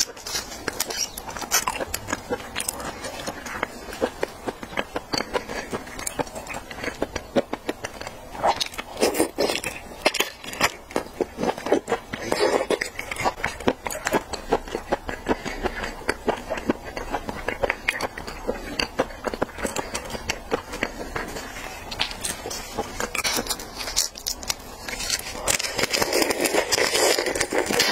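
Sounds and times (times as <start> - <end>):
wet chewing and lip smacking: 0.0 - 27.9.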